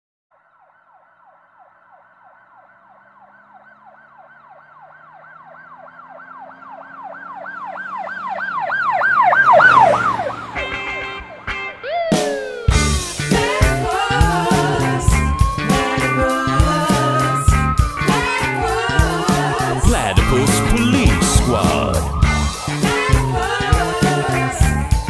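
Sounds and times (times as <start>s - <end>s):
siren yelping: 0.4s - 25.0s.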